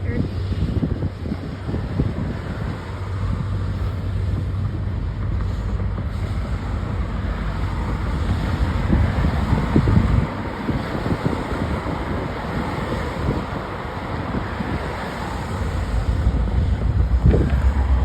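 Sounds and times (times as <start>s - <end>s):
train rumbling past: 0.0s - 18.0s
wind buffeting microphone: 0.0s - 18.0s.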